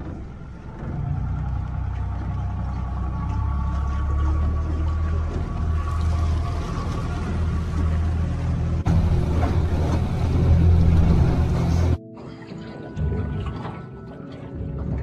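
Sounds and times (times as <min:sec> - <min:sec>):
outboard motor droning: 0:00.0 - 0:12.0
water noise: 0:00.0 - 0:15.0.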